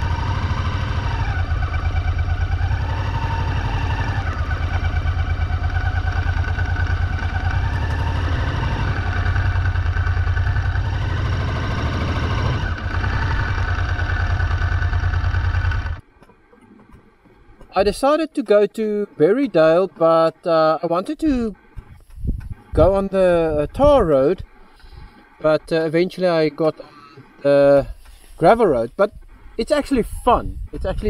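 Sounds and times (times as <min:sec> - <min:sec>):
motorcycle engine throbbing: 0:00.0 - 0:16.9, 0:21.2 - 0:31.0.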